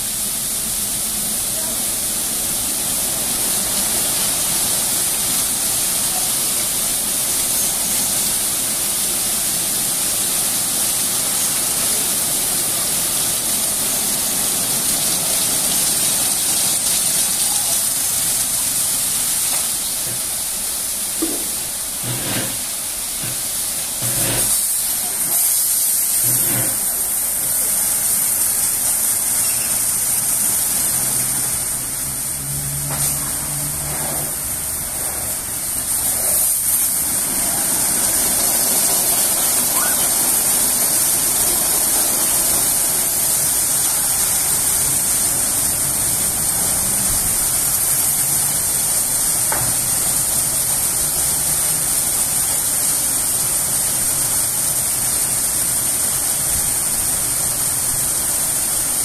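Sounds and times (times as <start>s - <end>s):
car wash brushes and water spray: 0.0s - 59.0s.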